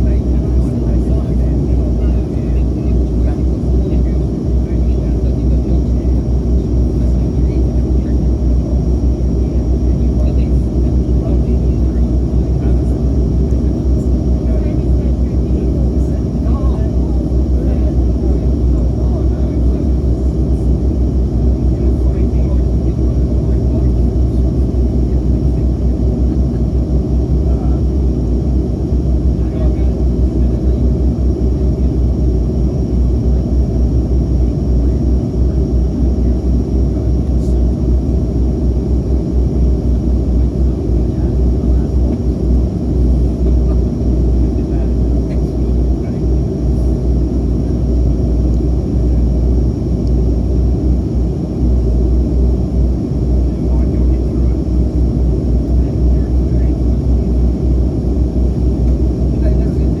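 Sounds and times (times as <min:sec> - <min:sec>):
turboprop engines rumbling: 0:00.0 - 1:00.0.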